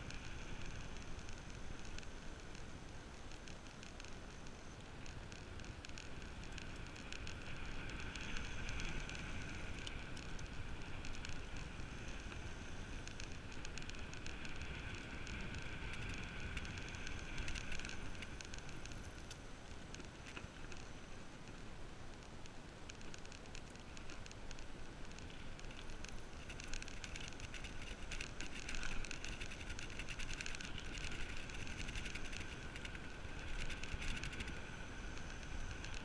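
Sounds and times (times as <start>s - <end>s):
bicycle tyre noise: 0.0s - 36.0s.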